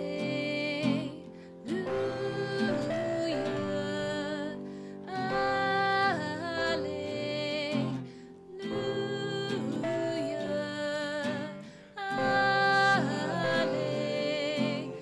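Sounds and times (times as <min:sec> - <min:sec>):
acoustic guitar: 0:00.0 - 0:15.0
keyboard: 0:00.0 - 0:15.0
woman and man singing: 0:00.0 - 0:15.0.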